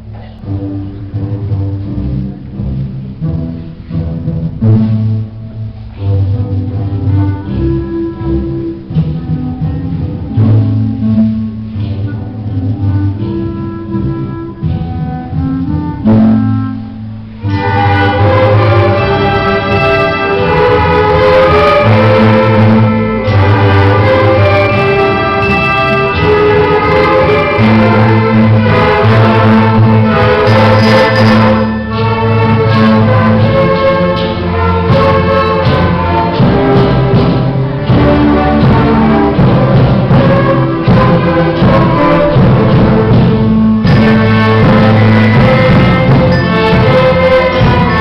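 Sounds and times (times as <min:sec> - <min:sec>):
orchestra playing folk dance tune: 0:00.0 - 0:48.0.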